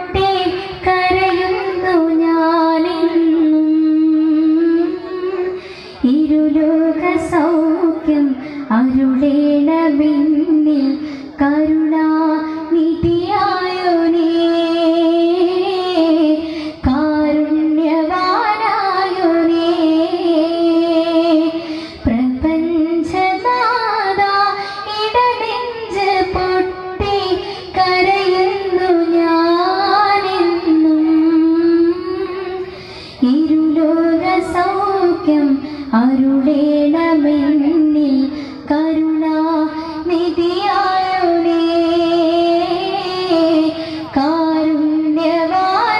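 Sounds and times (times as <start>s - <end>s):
child singing: 0.0s - 45.9s.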